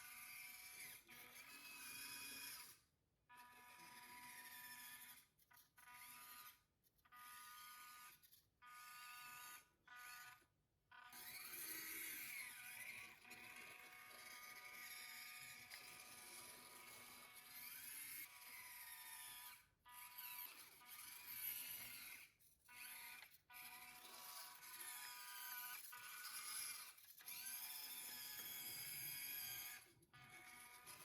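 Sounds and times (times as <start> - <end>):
small electric motor whining: 0.0 - 31.0.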